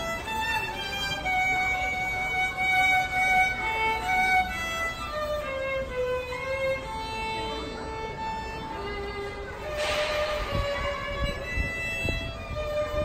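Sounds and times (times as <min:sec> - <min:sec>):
violin playing slow melody: 0:00.0 - 0:13.0.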